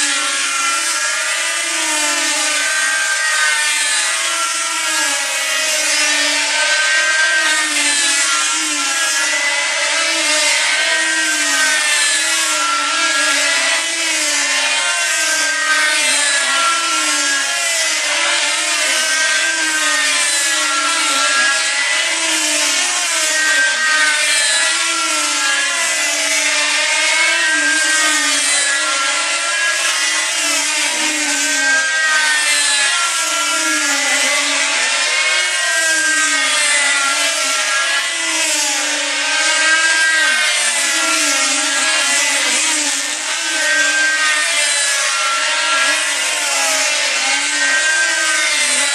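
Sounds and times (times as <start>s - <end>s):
model plane engines buzzing: 0.0s - 48.9s.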